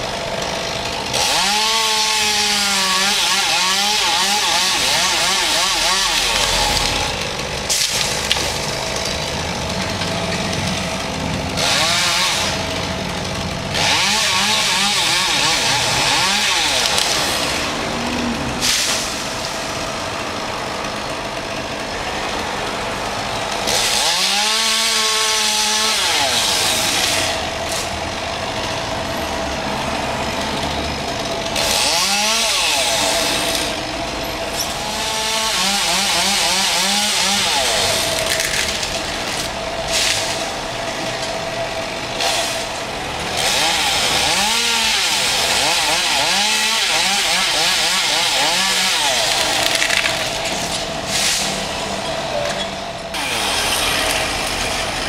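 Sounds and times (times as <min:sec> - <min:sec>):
chainsaw revving and cutting wood: 0:00.0 - 0:55.0.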